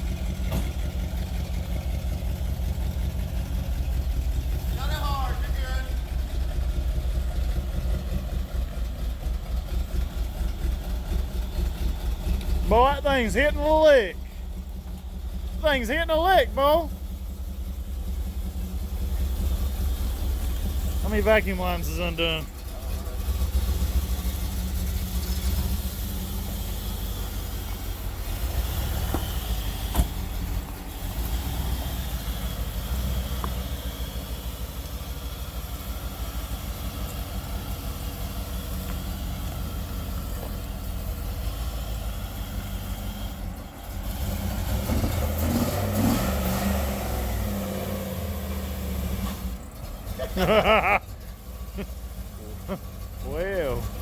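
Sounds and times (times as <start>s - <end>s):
engine lumpy idle: 0.0s - 45.6s, 46.9s - 54.0s.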